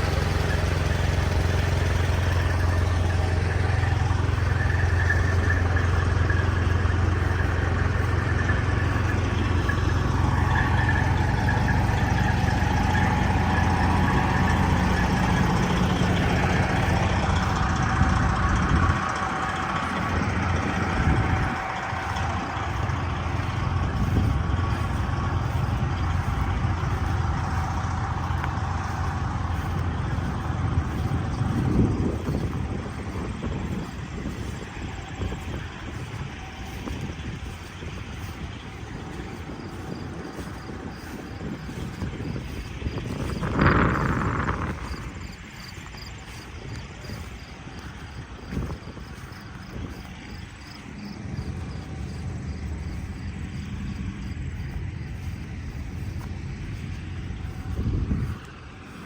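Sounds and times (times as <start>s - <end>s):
engine running with low hum: 0.0s - 59.0s.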